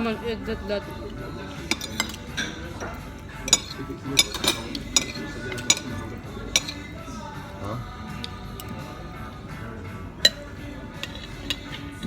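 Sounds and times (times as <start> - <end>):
cutlery clinking against plates: 1.1 - 9.0, 10.2 - 12.0.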